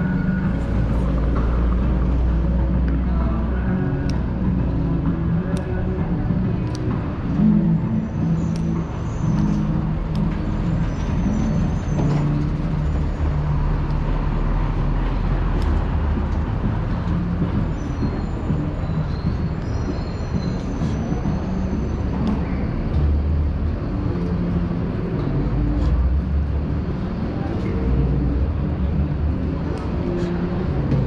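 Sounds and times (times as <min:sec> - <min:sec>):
car and bus engines running: 0:00.0 - 0:31.0.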